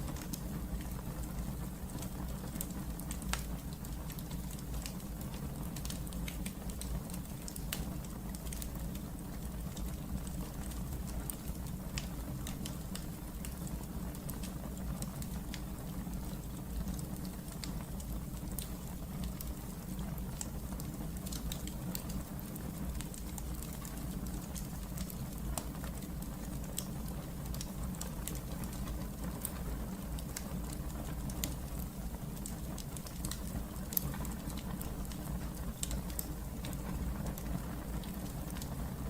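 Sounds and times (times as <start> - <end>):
fire low rumble: 0.0 - 39.0
wood fire crackling and popping: 0.0 - 39.0.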